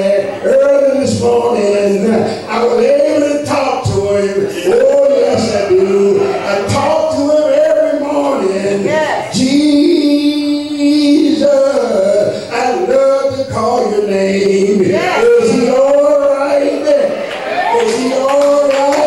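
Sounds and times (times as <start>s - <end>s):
man chanting in sung notes: 0.0s - 17.2s.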